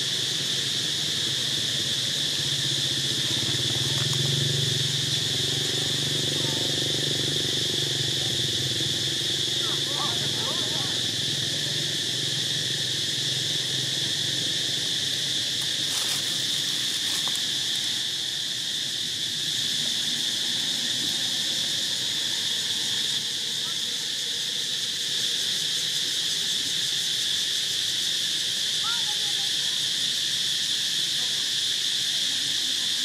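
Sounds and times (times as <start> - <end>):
insects buzzing: 0.0 - 33.0.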